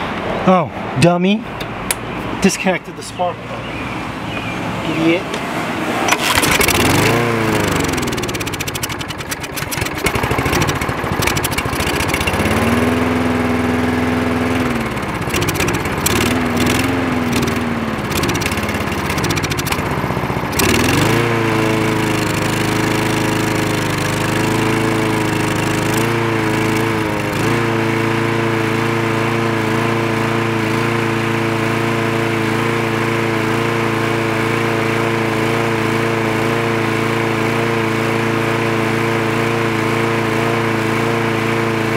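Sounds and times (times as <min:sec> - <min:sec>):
lawn mower engine starting and running: 0:01.5 - 0:41.9.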